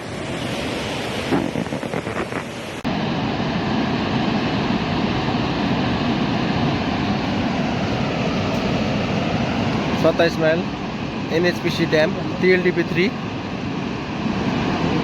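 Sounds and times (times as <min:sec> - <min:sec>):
wind buffeting microphone: 0:00.0 - 0:12.3
rushing floodwater: 0:00.0 - 0:15.0.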